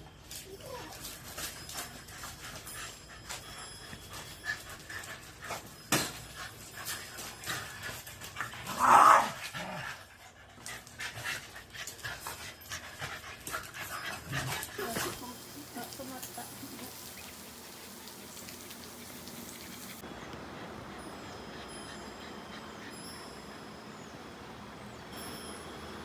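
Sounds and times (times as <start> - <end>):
dog panting: 1.2 - 8.7, 9.4 - 24.3.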